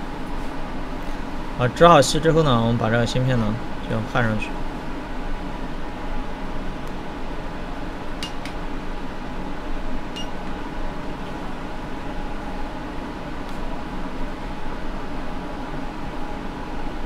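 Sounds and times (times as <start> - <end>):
fan whirring: 0.0 - 17.0.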